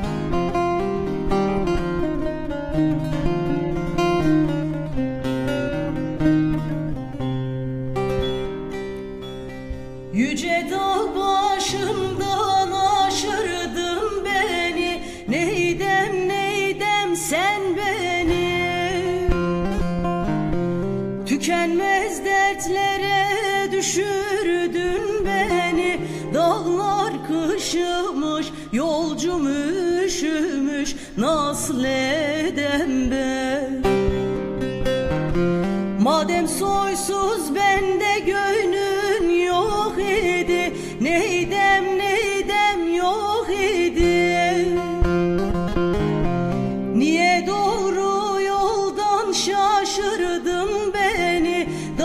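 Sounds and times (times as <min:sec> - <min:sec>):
acoustic guitars: 0:00.0 - 0:52.0
woman singing folk song: 0:00.0 - 0:52.0.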